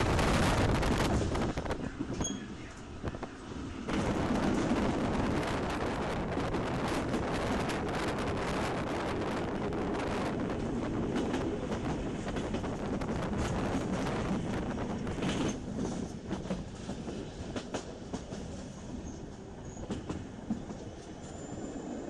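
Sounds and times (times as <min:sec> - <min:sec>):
train rumble with wheel clatter: 0:00.0 - 0:22.0
wind buffeting microphone: 0:00.0 - 0:22.0.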